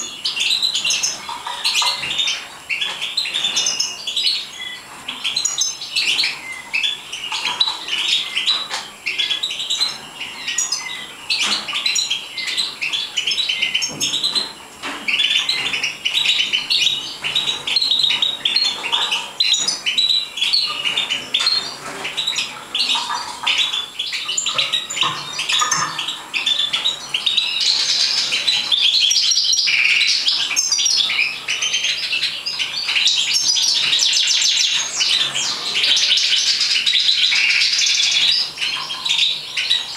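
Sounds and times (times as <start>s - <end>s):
finches chirping and twittering: 0.0s - 39.9s.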